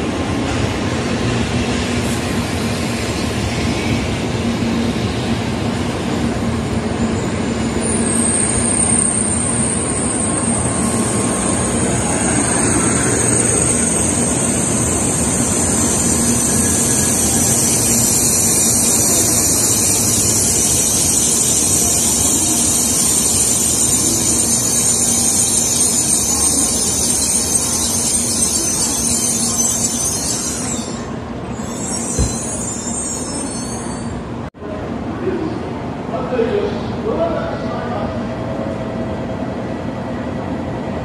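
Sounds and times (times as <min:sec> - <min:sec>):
high-speed train rushing past: 0:00.0 - 0:41.0.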